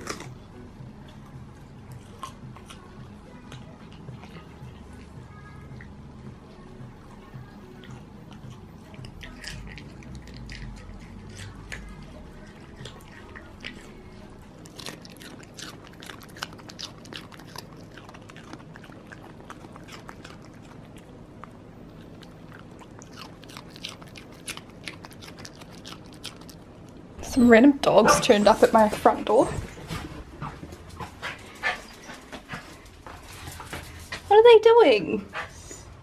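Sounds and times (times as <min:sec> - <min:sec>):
dogs crunching raw carrot: 0:00.0 - 0:06.4, 0:07.2 - 0:34.3.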